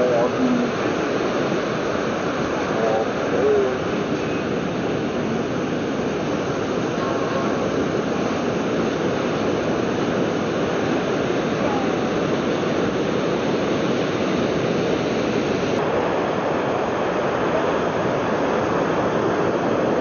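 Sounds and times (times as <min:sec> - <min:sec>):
surf washing up a sandy beach: 0:00.0 - 0:20.0.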